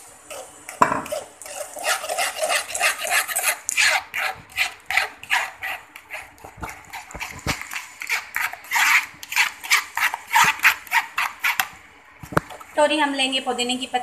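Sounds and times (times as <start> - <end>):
spoon scraping a mesh strainer: 0.3 - 11.7.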